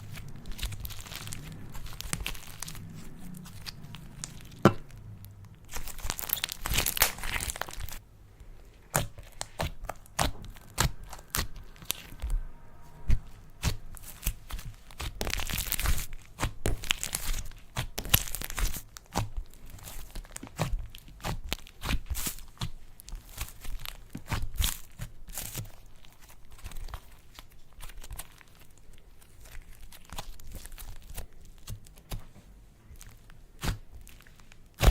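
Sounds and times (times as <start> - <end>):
slime crackling and popping: 0.0 - 8.0, 8.9 - 34.9.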